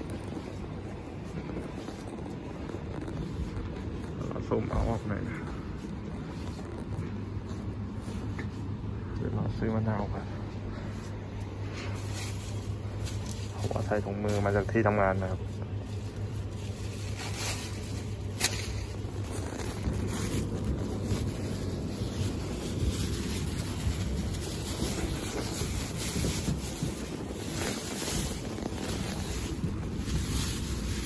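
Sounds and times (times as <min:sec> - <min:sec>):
microphone being rubbed: 0:00.0 - 0:09.2, 0:10.2 - 0:31.0.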